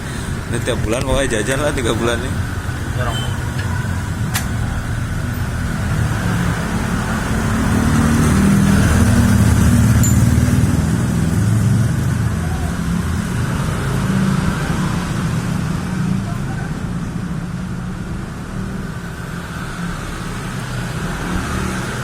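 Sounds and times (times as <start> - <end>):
vehicle engine rumbling: 0.0 - 21.1.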